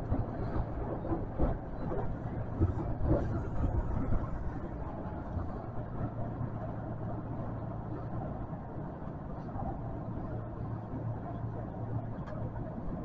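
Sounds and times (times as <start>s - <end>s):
subway train low rumble and hum: 0.0s - 13.0s.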